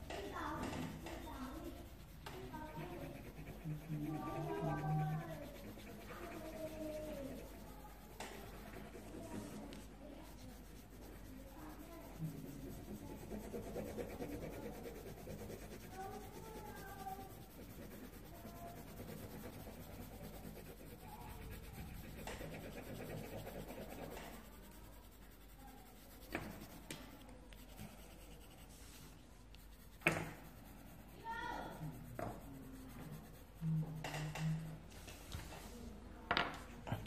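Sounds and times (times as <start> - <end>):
pencil scratching on paper: 0.0 - 35.8.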